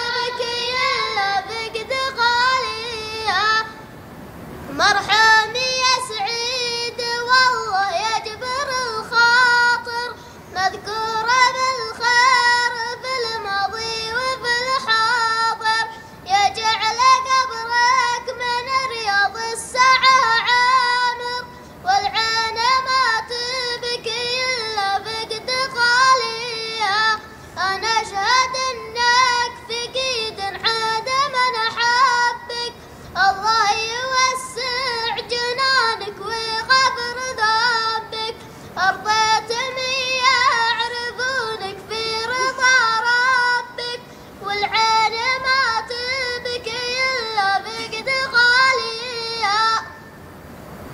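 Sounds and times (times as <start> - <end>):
child chanting in sung style: 0.0 - 4.0, 4.7 - 50.0.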